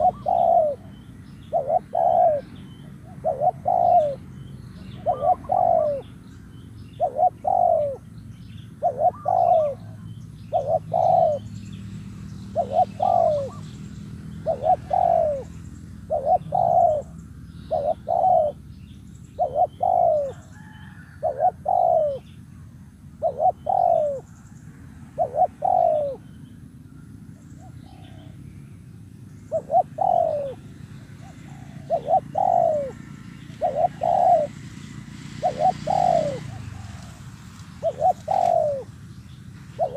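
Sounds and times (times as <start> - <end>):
dove cooing: 0.0 - 11.6, 12.4 - 18.7, 19.3 - 22.4, 23.1 - 24.5, 25.1 - 26.4, 27.4 - 28.4, 29.5 - 39.0, 39.6 - 39.9
small birds chirping: 0.0 - 39.9.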